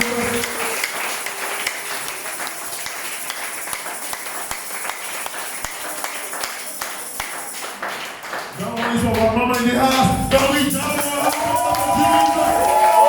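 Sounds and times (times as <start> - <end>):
crowd clapping: 0.0 - 13.0.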